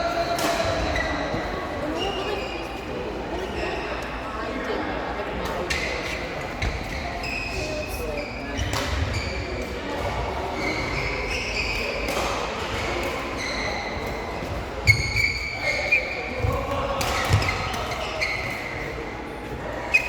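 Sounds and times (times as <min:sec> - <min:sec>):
murmur of voices echoing: 0:00.0 - 0:20.0
shoes squeaking on court floor: 0:00.5 - 0:04.2, 0:05.6 - 0:20.0.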